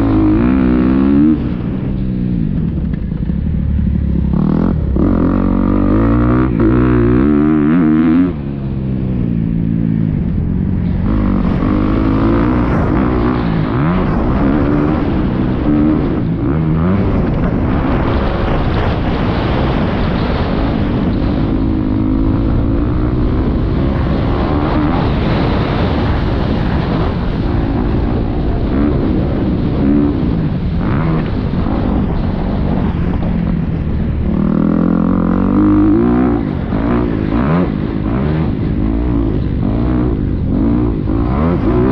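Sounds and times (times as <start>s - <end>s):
motocross bike engine revving: 0.0s - 2.8s, 3.4s - 41.9s.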